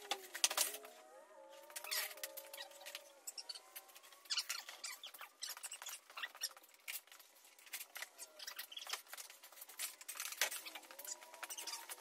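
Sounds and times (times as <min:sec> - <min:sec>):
clinking of tools and metal parts: 0:00.0 - 0:01.0, 0:01.7 - 0:12.0.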